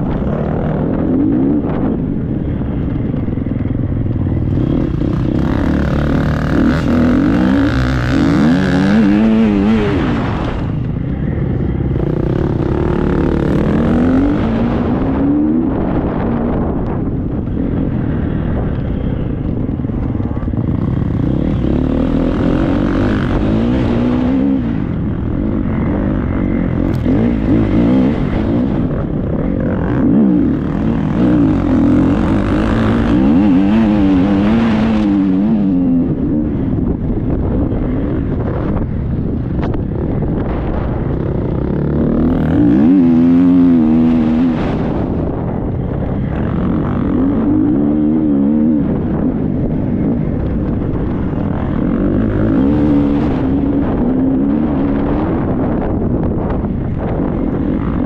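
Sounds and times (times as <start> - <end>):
motorcycle engine revving: 0.0 - 58.0
wind rumble on microphone: 0.0 - 58.0.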